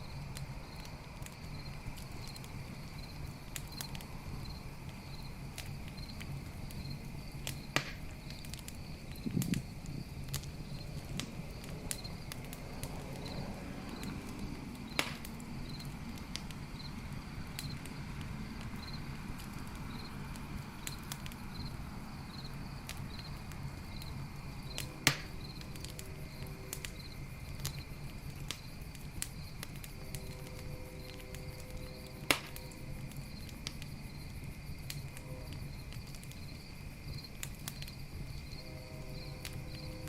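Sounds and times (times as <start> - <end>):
campfire crackling and popping: 0.0 - 40.0
crickets chirping: 0.0 - 40.0.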